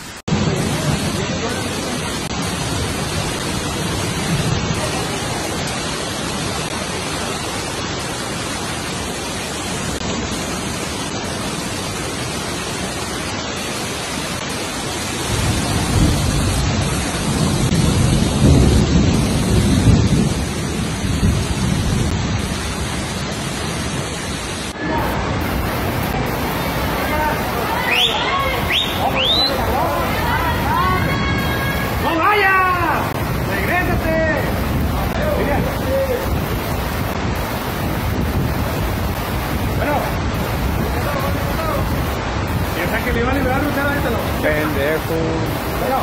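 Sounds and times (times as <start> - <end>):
floodwater rushing: 0.0 - 46.0
heavy rain: 0.0 - 46.0.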